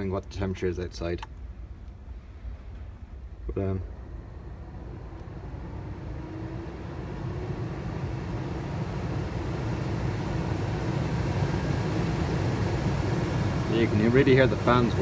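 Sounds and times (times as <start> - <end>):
heater blower fan rushing air: 0.0 - 15.0.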